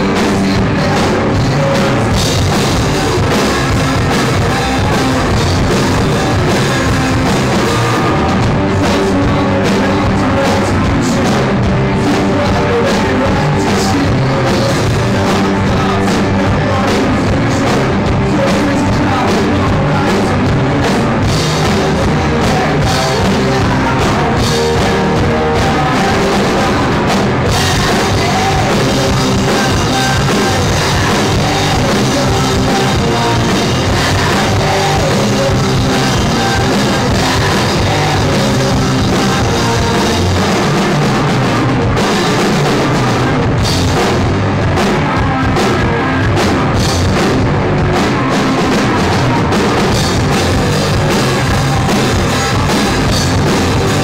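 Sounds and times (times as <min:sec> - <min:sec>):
rock band playing: 0:00.0 - 0:54.0
sung vocals: 0:00.0 - 0:54.0.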